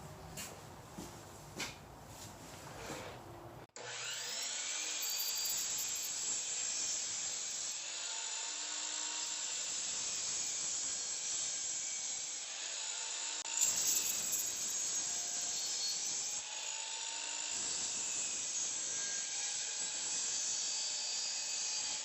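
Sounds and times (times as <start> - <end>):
power tool cutting wood: 3.7 - 22.0.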